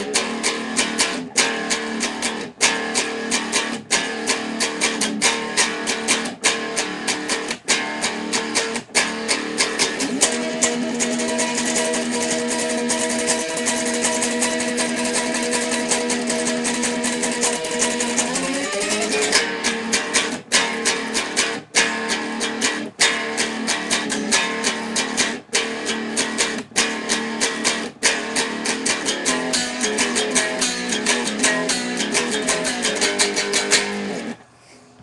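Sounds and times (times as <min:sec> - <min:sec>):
guitar picked notes: 0:00.0 - 0:34.4.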